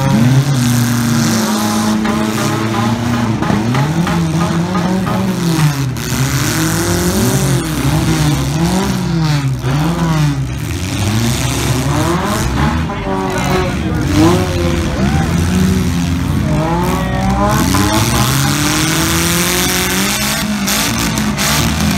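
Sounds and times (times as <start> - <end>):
car engines revving: 0.0 - 21.9.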